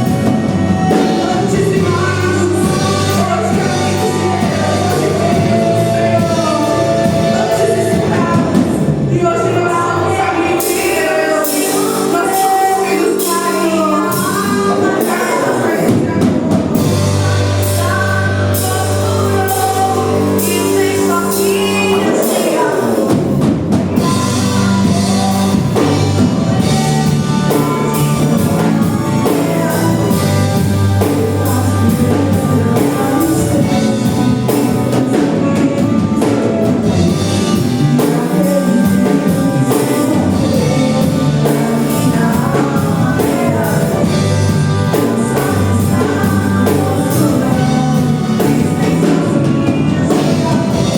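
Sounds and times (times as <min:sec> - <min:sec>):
drum kit: 0:00.0 - 0:50.9
worship band with singing: 0:00.0 - 0:50.9.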